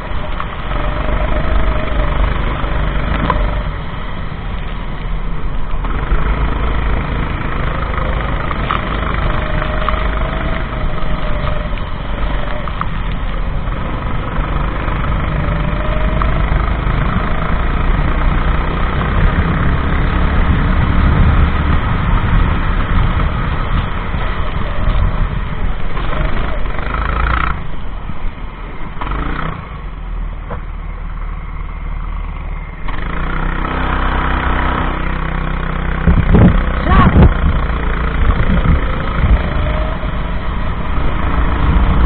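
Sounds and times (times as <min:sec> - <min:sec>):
go-kart engine revving: 0:00.0 - 0:42.0
heavy low rumble: 0:00.0 - 0:42.0.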